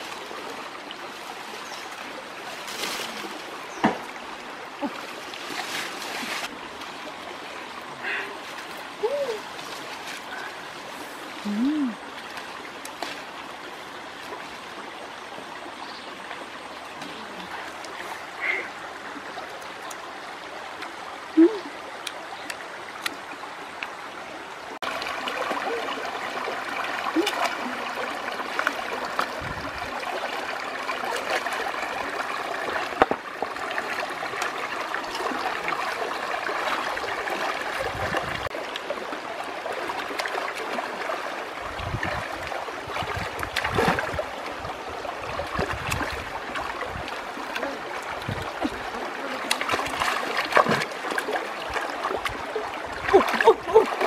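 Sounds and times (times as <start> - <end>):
stream trickling over rocks: 0.0 - 54.0.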